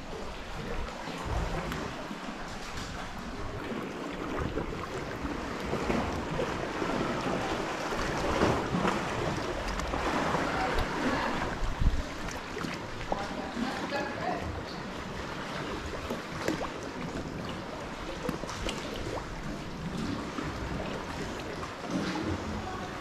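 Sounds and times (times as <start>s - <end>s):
paddle splashes: 0.0s - 23.0s
water lapping against hull: 0.0s - 23.0s.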